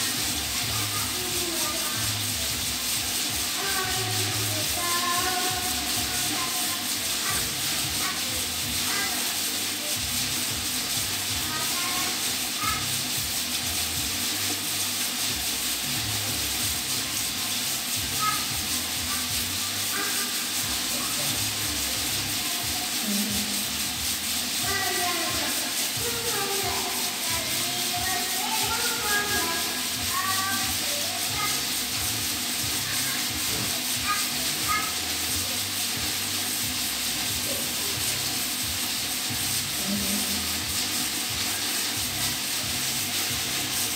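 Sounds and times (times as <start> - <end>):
water rushing from aquarium filter: 0.0 - 43.9.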